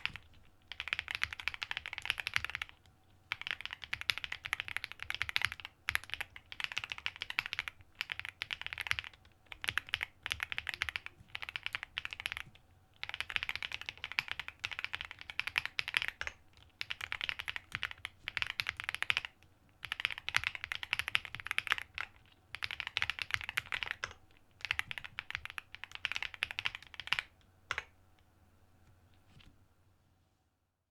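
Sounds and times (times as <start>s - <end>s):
mechanical keyboard typing: 0.0s - 27.9s.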